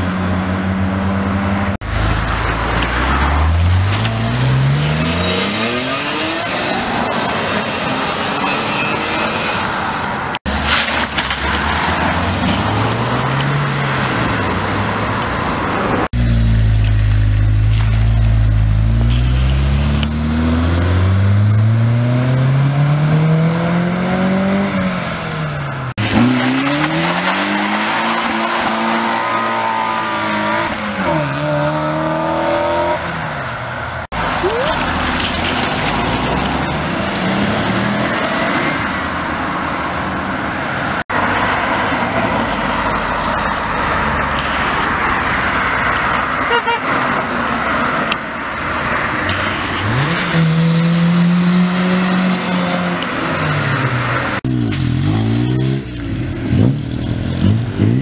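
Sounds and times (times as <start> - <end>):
cars accelerating hard: 0.0 - 9.7, 18.8 - 39.4, 40.4 - 58.0.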